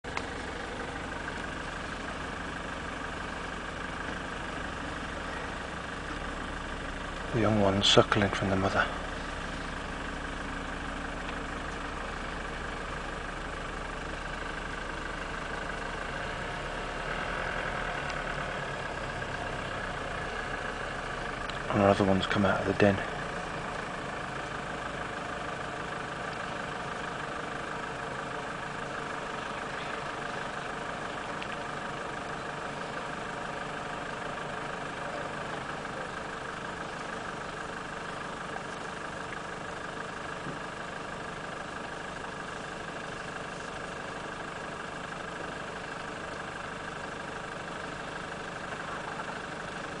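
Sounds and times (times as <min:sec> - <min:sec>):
vehicle engine idling: 0:00.0 - 0:50.0.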